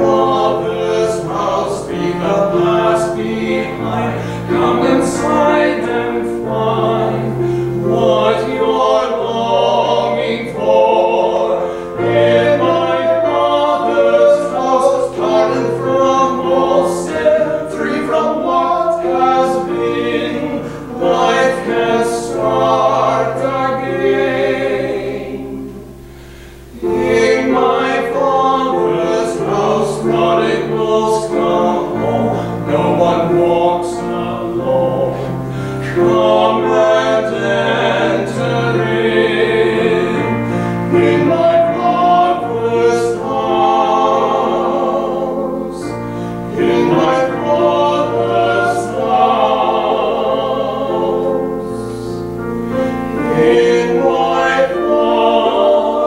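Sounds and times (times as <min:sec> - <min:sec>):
keyboard accompaniment: 0:00.0 - 0:56.0.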